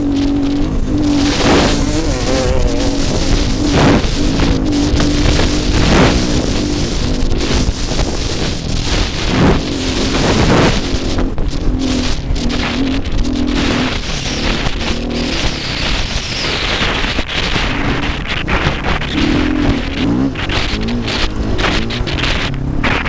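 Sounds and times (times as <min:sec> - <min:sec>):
dirt bike engine revving: 0:00.0 - 0:23.0
wind and sand rushing: 0:00.0 - 0:23.0.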